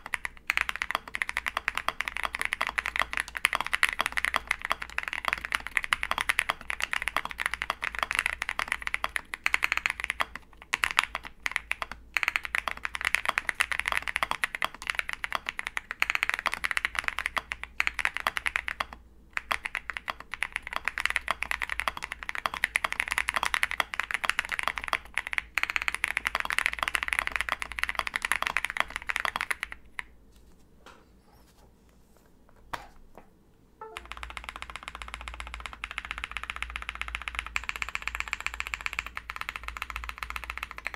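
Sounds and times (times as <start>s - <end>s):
fast typing on mechanical keyboard: 0.0s - 30.1s, 33.8s - 40.9s.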